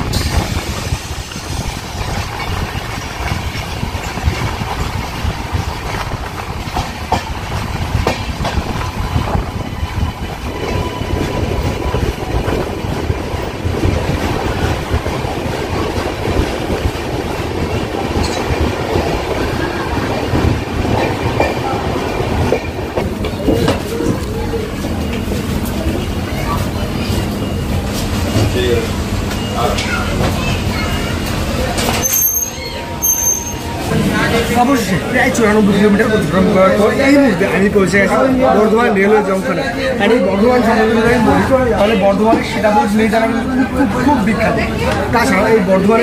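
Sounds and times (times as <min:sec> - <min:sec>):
train wheels clattering over rails: 0:00.0 - 0:37.1
rumble of train coaches: 0:00.0 - 0:46.0.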